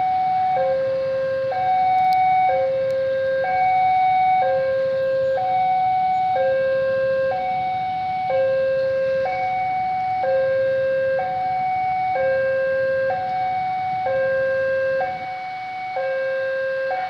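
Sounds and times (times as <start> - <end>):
level crossing two-tone alarm: 0.0 - 17.0.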